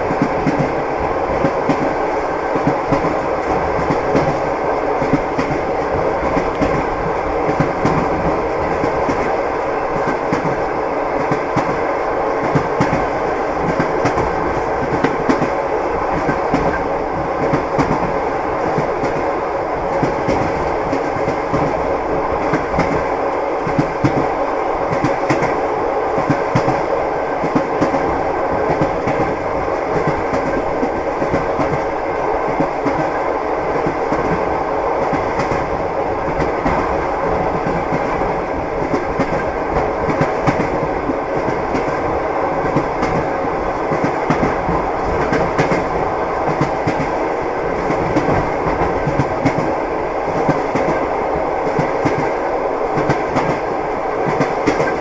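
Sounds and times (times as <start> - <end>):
train wheels clacking on rail joints: 0.0 - 25.6, 26.2 - 55.0
moving train rumble: 0.0 - 55.0.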